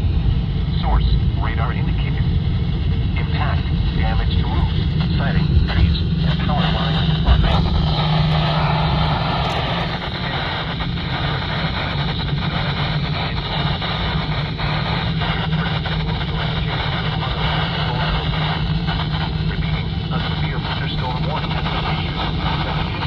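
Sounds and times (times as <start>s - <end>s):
strong low hum: 0.0s - 23.0s
radio hiss: 0.7s - 23.0s.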